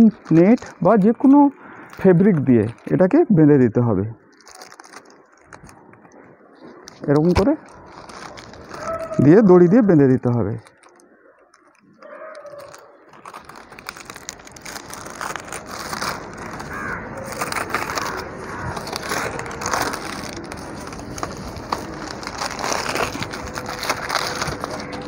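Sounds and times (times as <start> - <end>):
plastic net rustling and crackling: 0.0 - 25.0.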